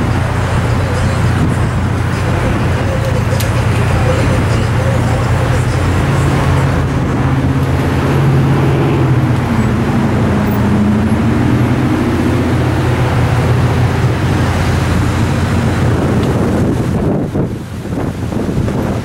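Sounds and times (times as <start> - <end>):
low rumble of road vehicles: 0.0 - 19.0.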